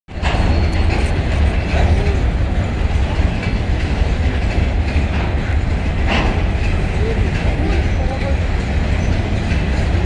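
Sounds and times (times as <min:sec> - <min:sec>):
train moving along track: 0:00.1 - 0:10.0.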